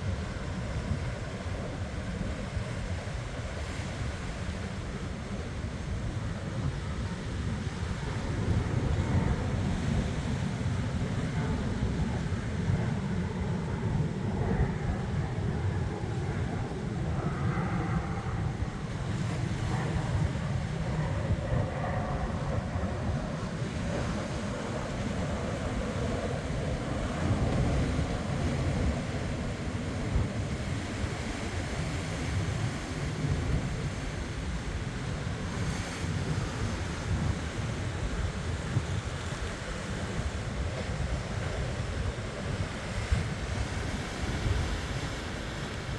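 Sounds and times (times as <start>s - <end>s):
wind buffeting microphone: 0.0s - 45.9s
ocean surf washing in: 3.0s - 45.9s.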